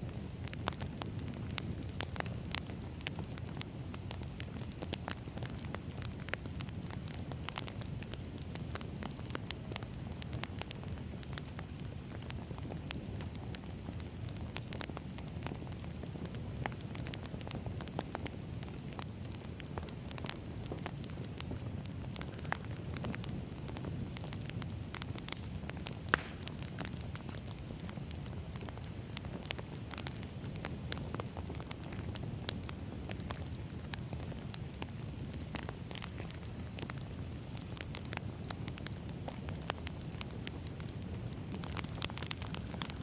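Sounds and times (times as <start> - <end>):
fire low rumble: 0.0 - 43.0
logs crackling and popping: 0.0 - 43.0.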